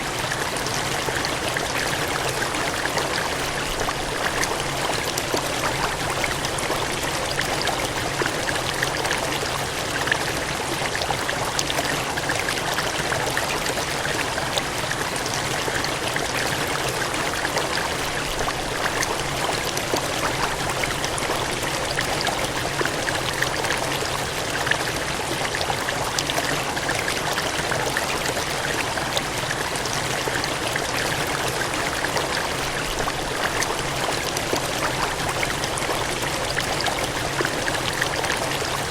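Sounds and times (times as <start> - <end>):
water gushing and splashing: 0.0 - 38.9.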